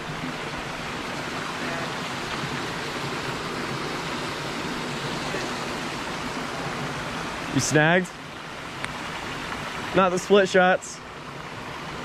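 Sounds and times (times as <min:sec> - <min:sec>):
water rushing through spillway: 0:00.0 - 0:12.0.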